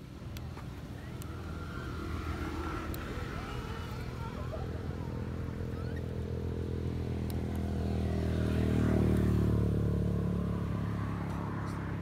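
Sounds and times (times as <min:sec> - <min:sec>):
passing vehicle engine drone: 0:00.7 - 0:12.0.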